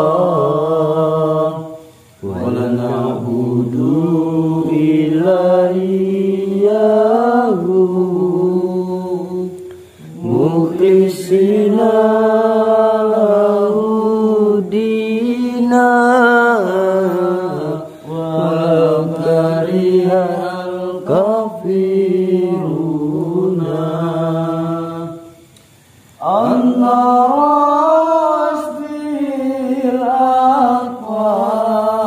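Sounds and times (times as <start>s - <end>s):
person chanting held notes: 0.0s - 25.5s, 26.1s - 32.0s.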